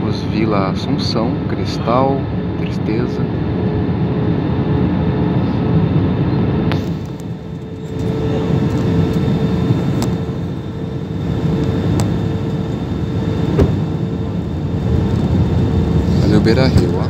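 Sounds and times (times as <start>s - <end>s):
aircraft engines roaring: 0.0s - 17.0s
steady hum: 0.0s - 17.0s.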